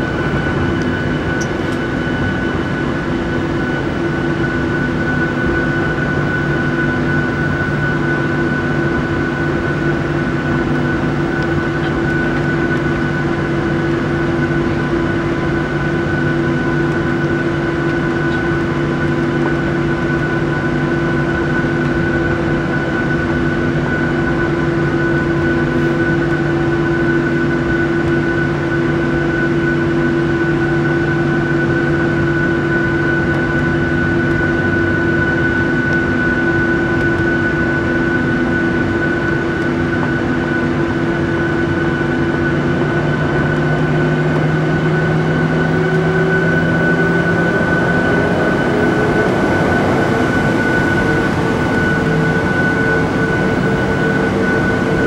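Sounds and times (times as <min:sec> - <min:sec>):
jet engines humming in cabin: 0:00.0 - 0:55.0.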